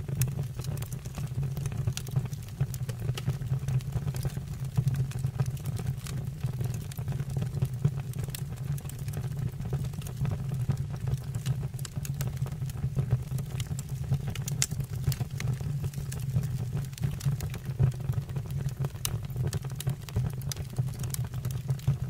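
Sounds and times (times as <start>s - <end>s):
fire crackling and popping: 0.0s - 22.0s
fire flames rumbling: 0.0s - 22.0s.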